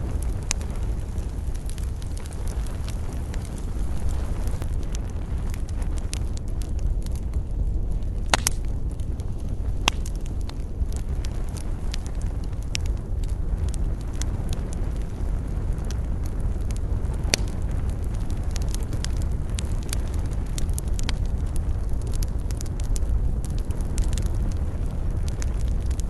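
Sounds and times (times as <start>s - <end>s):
campfire crackling and popping: 0.0s - 26.0s
low fire rumble: 0.0s - 26.0s.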